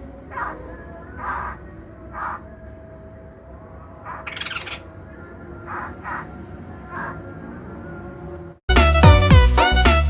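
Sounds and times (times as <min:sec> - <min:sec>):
bird calling: 0:00.0 - 0:08.4.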